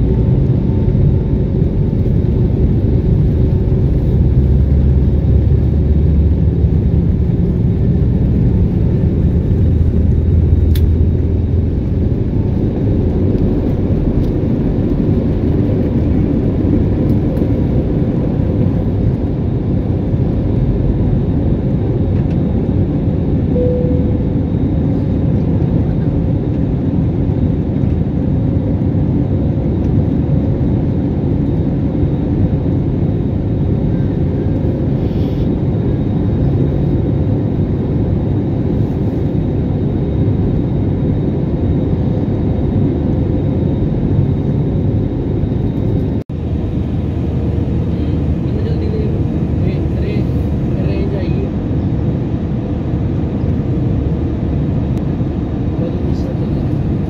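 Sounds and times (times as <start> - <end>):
heavy low rumble: 0.0 - 57.0
jet engines roaring: 0.0 - 57.0.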